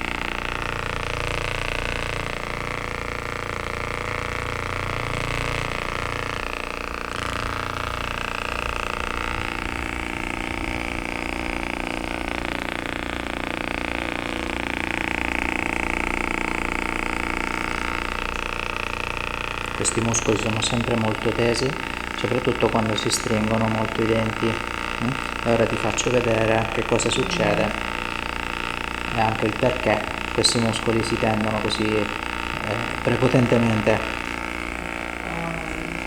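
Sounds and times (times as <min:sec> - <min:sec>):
massage gun motor humming: 0:00.0 - 0:36.0.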